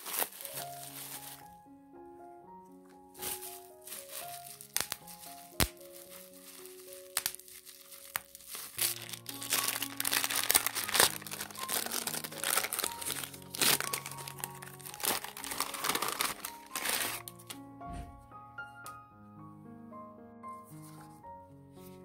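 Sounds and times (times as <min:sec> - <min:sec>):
crinkling and rustling handling: 0:00.0 - 0:01.6, 0:02.8 - 0:18.3, 0:20.7 - 0:21.2
soft background music: 0:00.0 - 0:22.0.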